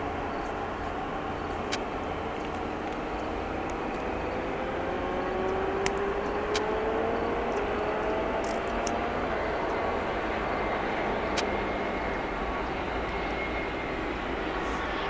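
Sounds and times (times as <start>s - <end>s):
jet engine drone: 0.0s - 15.0s.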